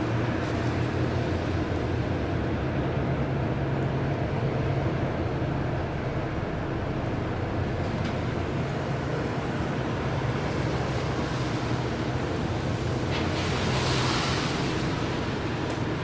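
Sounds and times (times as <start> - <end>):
tugboat engine drone: 0.0 - 16.0.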